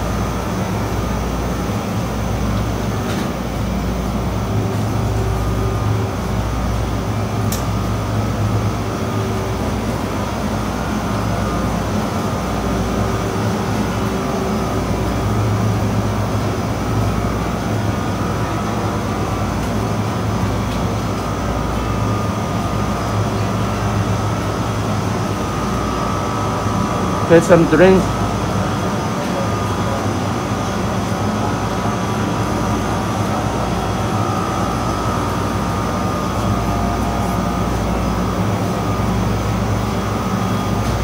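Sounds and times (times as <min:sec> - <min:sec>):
chiller machinery hum tones: 0:00.0 - 0:41.0
supermarket background hum: 0:00.0 - 0:41.0.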